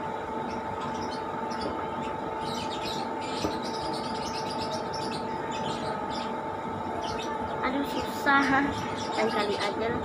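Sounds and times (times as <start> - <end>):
steady background hum: 0.0 - 10.0
small birds chirping: 0.3 - 10.0.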